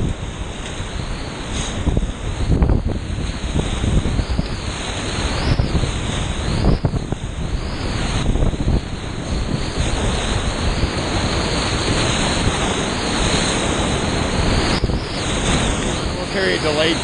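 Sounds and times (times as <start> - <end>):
whitewater rushing and splashing: 0.0 - 17.0
wind buffeting microphone: 0.0 - 17.0.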